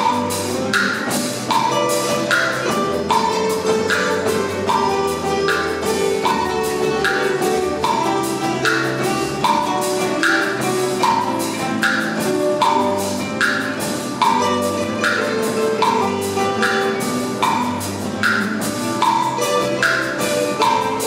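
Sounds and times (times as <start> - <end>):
acoustic guitar ensemble: 0.0 - 21.0
knocking percussion: 0.0 - 21.0.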